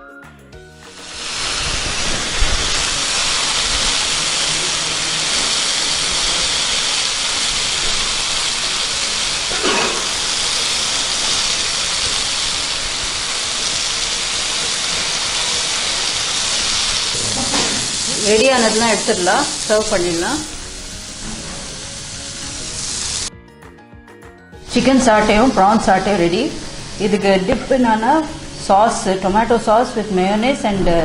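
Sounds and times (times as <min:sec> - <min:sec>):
skewers sizzling on grill pan: 0:00.9 - 0:23.3, 0:24.6 - 0:30.7.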